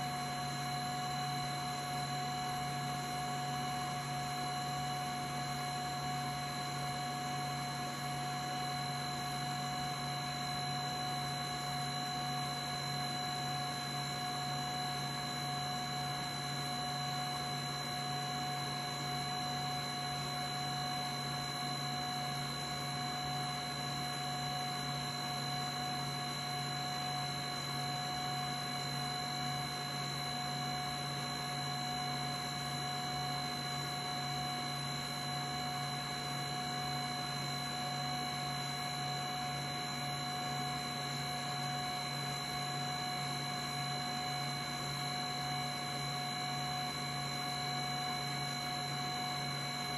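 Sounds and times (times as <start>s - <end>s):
record cleaner humming and whining: 0.0s - 49.9s.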